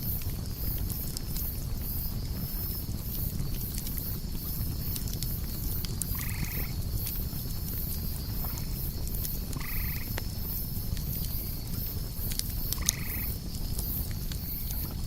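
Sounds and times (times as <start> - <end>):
campfire crackling and popping: 0.0 - 15.0
crickets chirping: 0.0 - 15.0.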